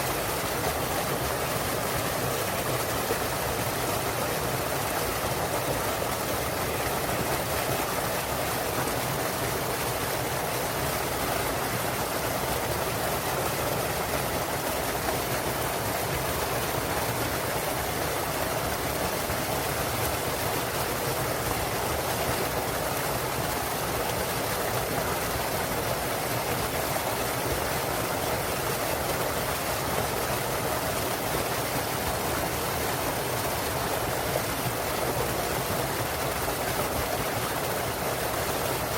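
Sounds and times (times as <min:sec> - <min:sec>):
waterfall rushing into stream: 0:00.0 - 0:38.9.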